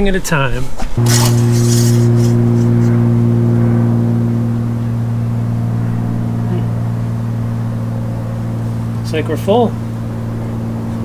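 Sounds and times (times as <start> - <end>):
loud mechanical hum: 1.0 - 11.0.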